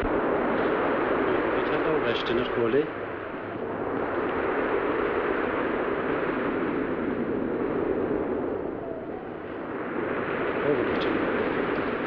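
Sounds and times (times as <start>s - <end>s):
film soundtrack rushing noise: 0.0s - 12.0s.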